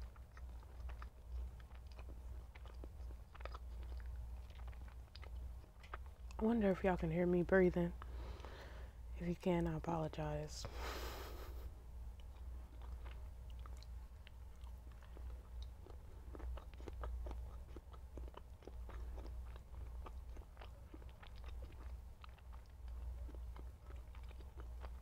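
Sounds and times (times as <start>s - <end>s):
person chewing soft food: 0.0s - 9.1s, 10.6s - 25.0s
steady low hum: 0.0s - 25.0s.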